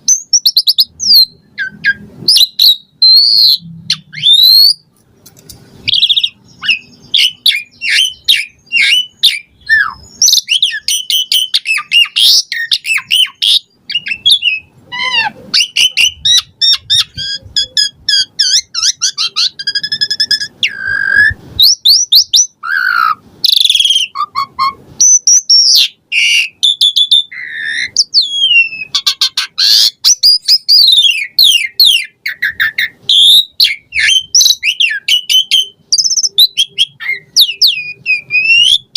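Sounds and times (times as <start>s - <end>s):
starling singing: 0.0s - 4.9s, 5.8s - 38.9s.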